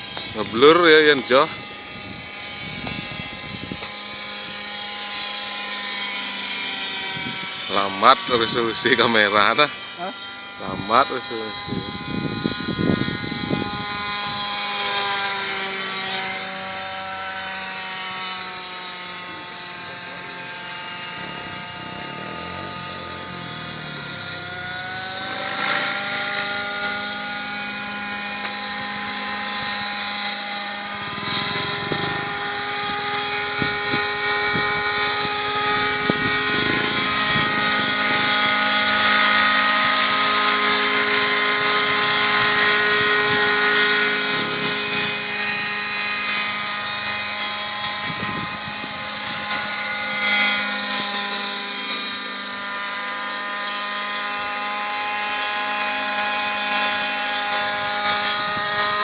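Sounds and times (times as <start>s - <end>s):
model helicopter engine and rotor: 0.0s - 59.0s.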